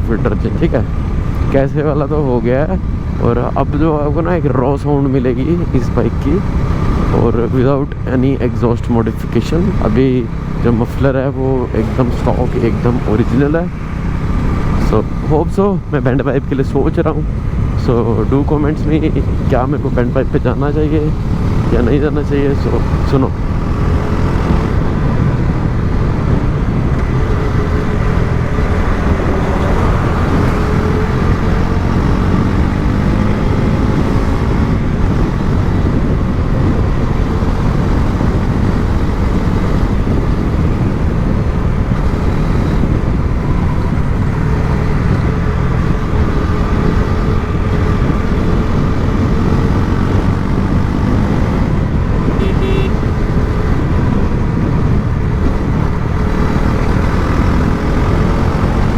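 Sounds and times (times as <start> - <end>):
motorcycle engine revving: 9.1 - 15.4, 16.9 - 58.9.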